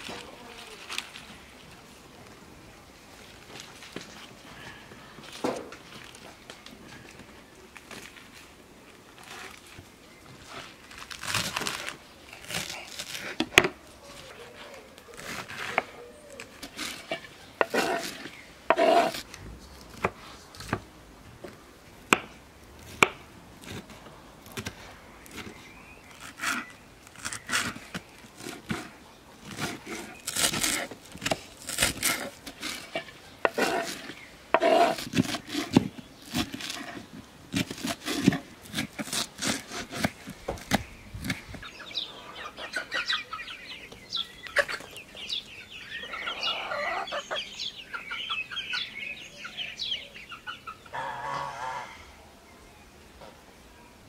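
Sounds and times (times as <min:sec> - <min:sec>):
leaves rustling and crinkling: 0:00.0 - 0:47.1.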